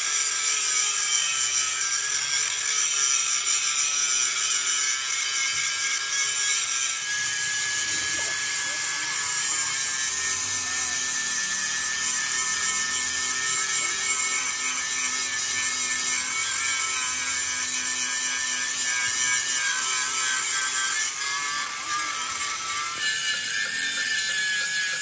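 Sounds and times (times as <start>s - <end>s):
angle grinder cutting steel: 0.0s - 25.0s.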